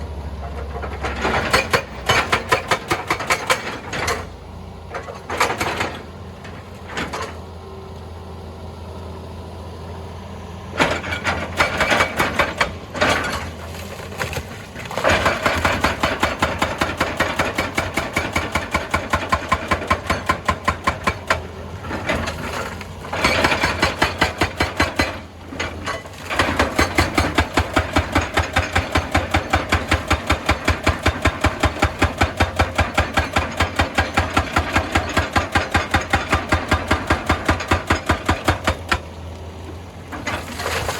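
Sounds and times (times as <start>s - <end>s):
excavator engine drone: 0.0s - 40.9s
hydraulic breaker hammering rock: 0.6s - 4.3s, 5.0s - 6.0s, 10.8s - 39.2s.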